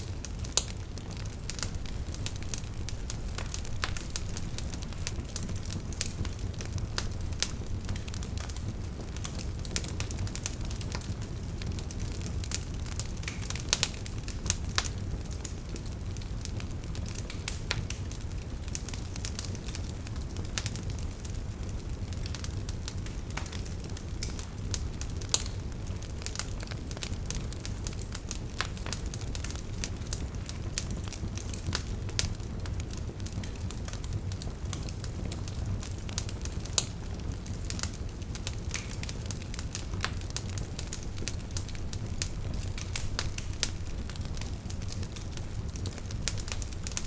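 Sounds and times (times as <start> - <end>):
firewood snapping and popping: 0.0 - 16.4, 22.2 - 47.0
fire low rumble: 0.0 - 47.0.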